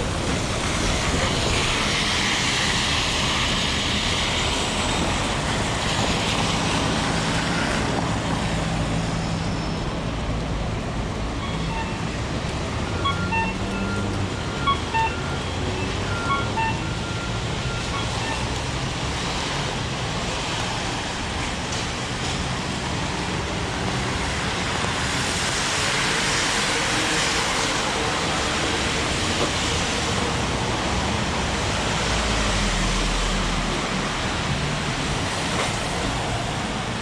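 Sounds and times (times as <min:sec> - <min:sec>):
vehicle passing on wet road: 0:00.0 - 0:11.3, 0:11.9 - 0:37.0
heavy rain: 0:00.0 - 0:37.0.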